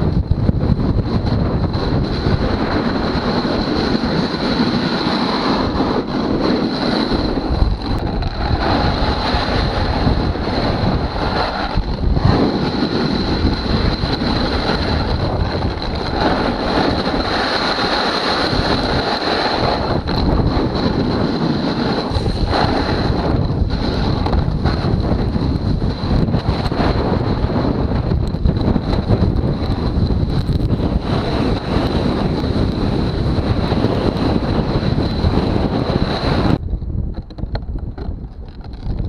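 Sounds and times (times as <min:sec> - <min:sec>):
snowboard scraping over icy snow: 0:00.0 - 0:36.6
wind buffeting microphone: 0:00.0 - 0:39.0.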